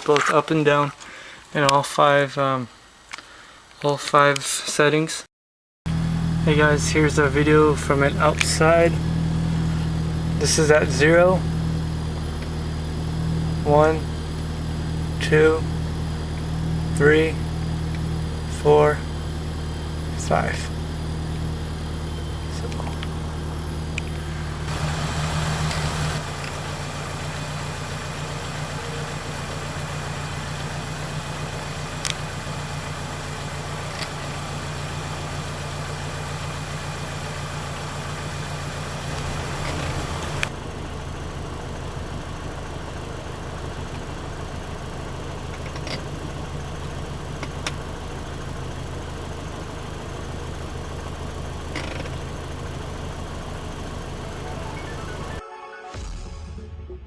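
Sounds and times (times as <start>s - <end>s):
car engine idling: 5.9s - 55.4s.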